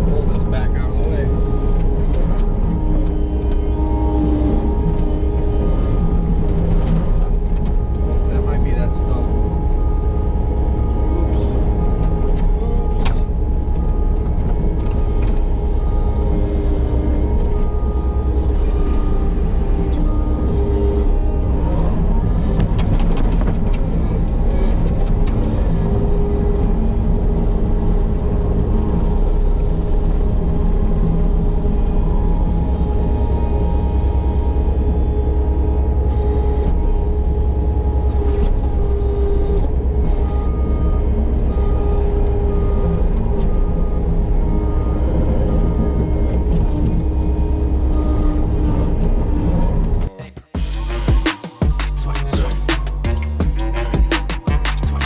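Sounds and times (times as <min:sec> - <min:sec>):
diesel engine running: 0:00.0 - 0:48.2, 0:50.6 - 0:55.0.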